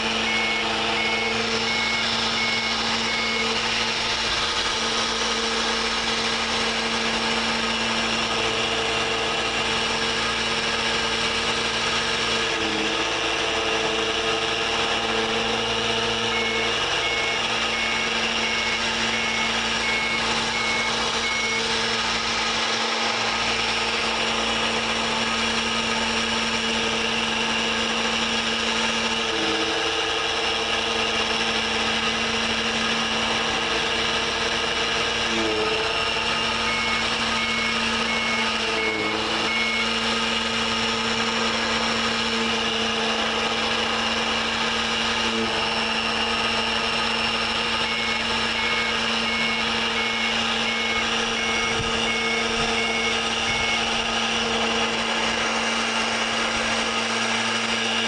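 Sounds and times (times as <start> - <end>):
motor whine: 0.0 - 58.0.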